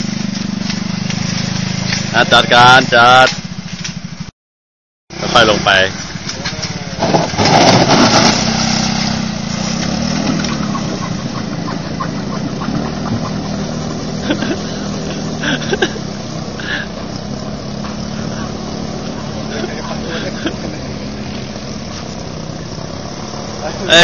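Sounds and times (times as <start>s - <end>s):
scooter engine revving: 0.0s - 4.3s, 5.1s - 24.0s.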